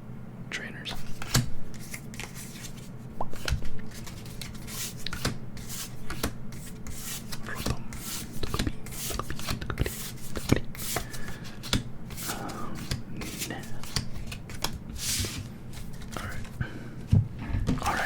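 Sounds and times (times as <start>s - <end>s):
trading cards swiping: 1.0s - 16.5s.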